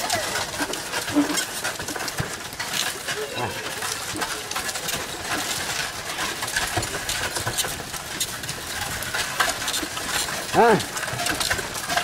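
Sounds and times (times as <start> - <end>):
cart and harness clattering: 0.0 - 12.0
cart rolling on dirt road: 0.0 - 12.0.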